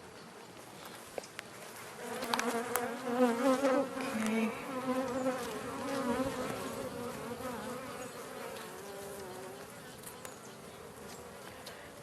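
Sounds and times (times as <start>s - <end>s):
honey bees buzzing: 1.7s - 12.0s.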